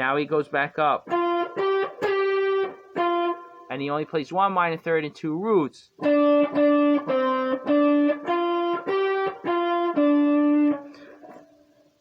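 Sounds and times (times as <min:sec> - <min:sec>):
guitar blues lick: 0:00.0 - 0:04.0, 0:05.9 - 0:12.0.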